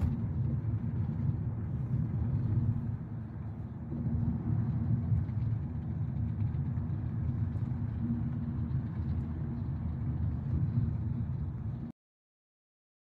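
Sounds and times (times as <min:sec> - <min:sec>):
car cabin road rumble: 0:00.0 - 0:11.9.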